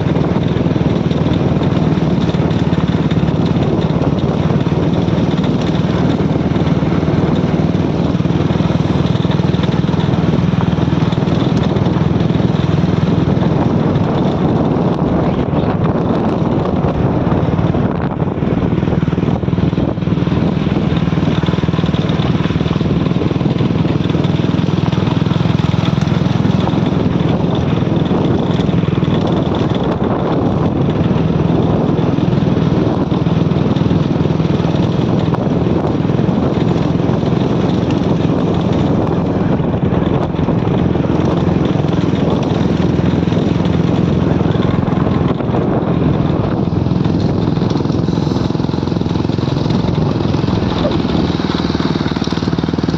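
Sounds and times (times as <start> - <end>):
road and air noise: 0.0 - 52.9
vehicle engine drone: 0.0 - 52.9.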